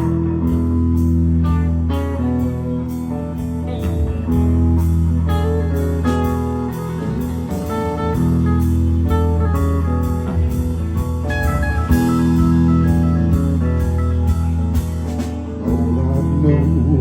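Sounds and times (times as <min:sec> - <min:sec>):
bass: 0:00.0 - 0:17.0
guitar lines: 0:00.0 - 0:17.0
steady drum beat: 0:00.0 - 0:17.0.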